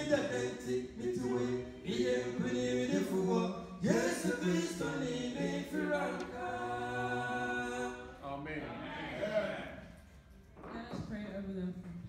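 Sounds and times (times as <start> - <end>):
male a cappella group singing: 0.0 - 9.8.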